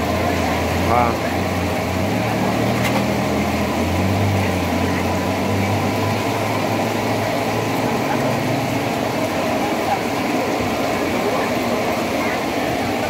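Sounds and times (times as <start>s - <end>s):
gas burner roar: 0.0s - 13.0s.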